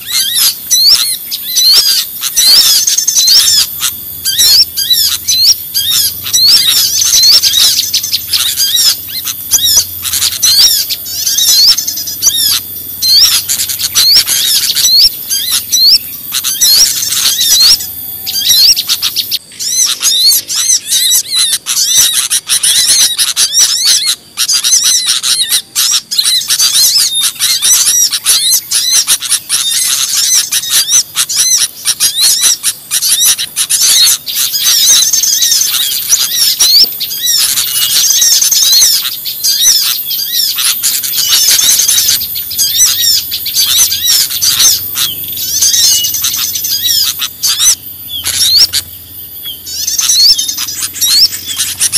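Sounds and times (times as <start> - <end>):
small birds chirping and twittering: 0.0 - 51.9.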